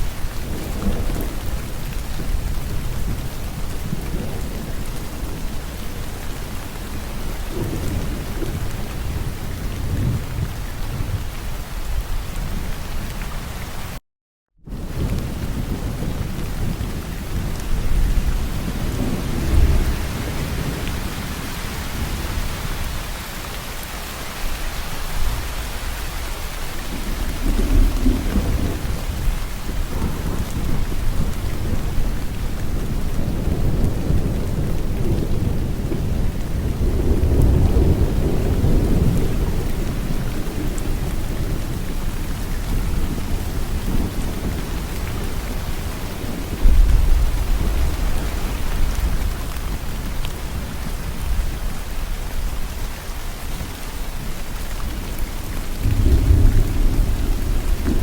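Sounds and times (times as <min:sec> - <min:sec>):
rolling thunder: 0:00.0 - 0:11.3, 0:14.7 - 0:23.2, 0:26.8 - 0:52.9, 0:54.3 - 0:58.0
falling rain: 0:00.0 - 0:14.0, 0:14.7 - 0:58.0.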